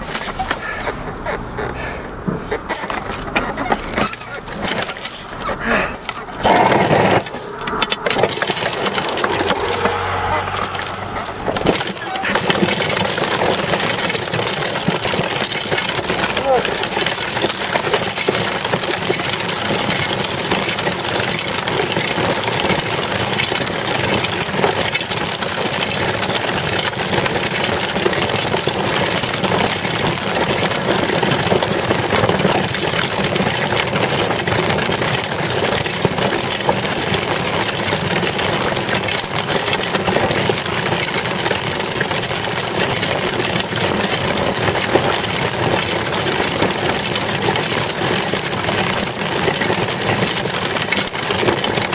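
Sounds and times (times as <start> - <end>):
bicycle tyres rumbling on asphalt: 0.0 - 51.9.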